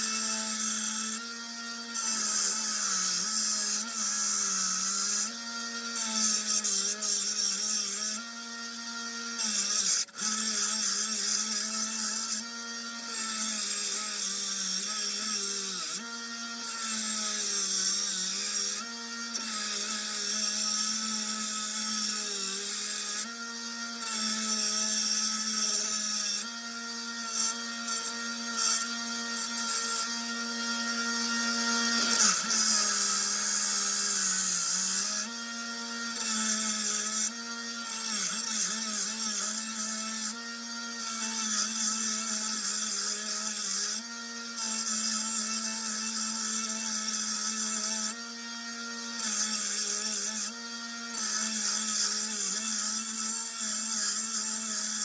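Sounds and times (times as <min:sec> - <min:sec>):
belt sander motor hum: 0:00.0 - 0:44.6.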